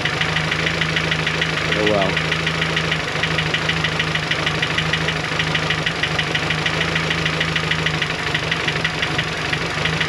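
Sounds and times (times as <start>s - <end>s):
engine idling with fast ticking: 0.0s - 10.0s.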